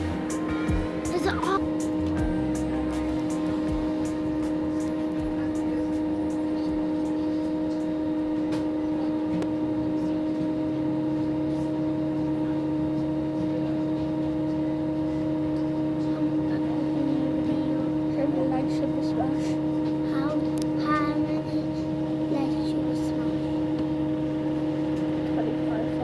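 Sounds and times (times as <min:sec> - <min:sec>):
bus hum and rumble: 0:00.0 - 0:26.0
constant humming tones: 0:00.0 - 0:26.0.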